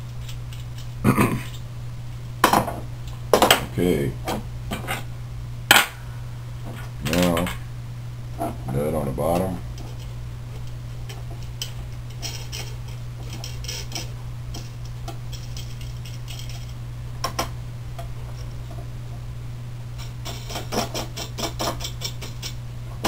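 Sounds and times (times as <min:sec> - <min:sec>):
low hum: 0:00.0 - 0:20.3.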